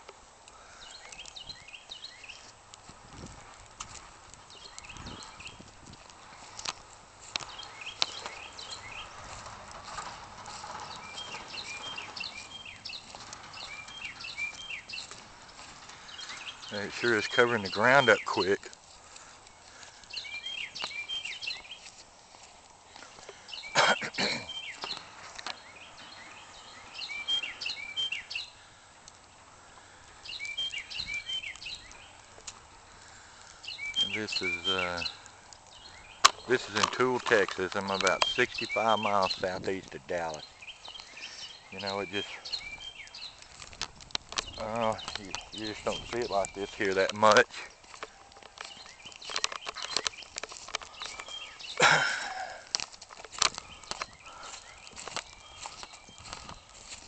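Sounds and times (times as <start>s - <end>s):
small birds chirping: 0.0s - 57.0s
songbird singing: 0.0s - 57.0s.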